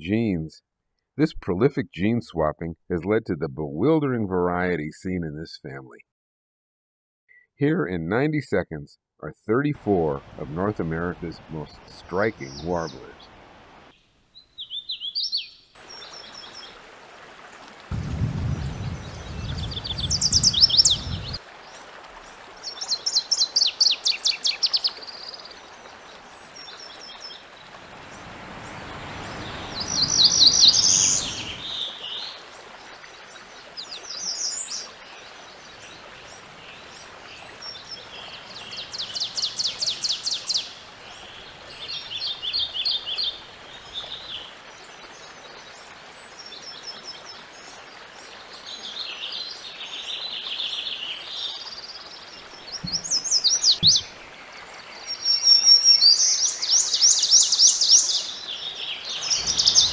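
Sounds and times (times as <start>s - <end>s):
warbler songs: 9.9s - 13.4s, 14.0s - 16.8s, 17.9s - 59.9s
outdoor hiss: 10.2s - 14.6s, 15.2s - 46.9s, 47.5s - 59.9s.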